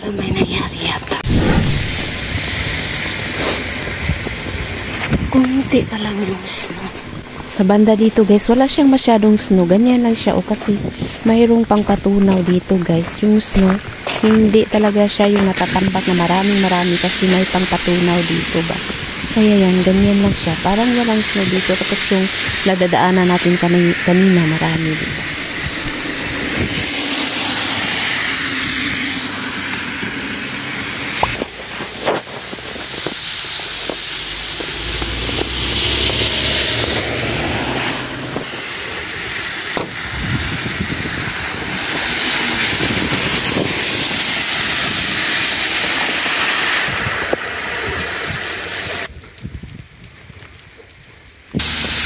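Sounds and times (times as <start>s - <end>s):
cars passing on wet road: 1.2s - 49.2s, 51.3s - 52.0s.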